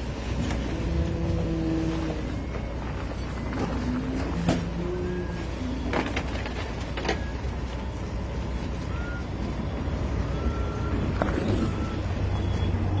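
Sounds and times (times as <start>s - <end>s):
engine running low rumble: 0.0s - 13.0s.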